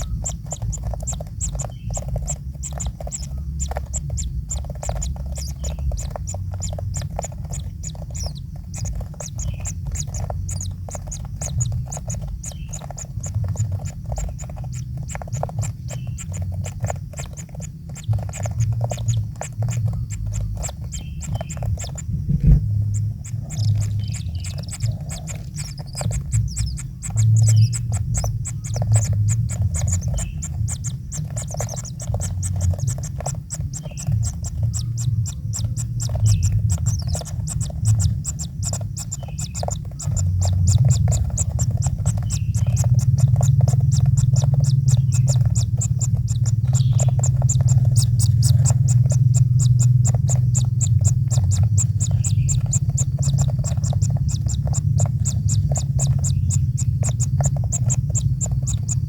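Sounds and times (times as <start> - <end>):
low hum: 0.0 - 59.0
nestlings ticking rattle: 0.0 - 59.0.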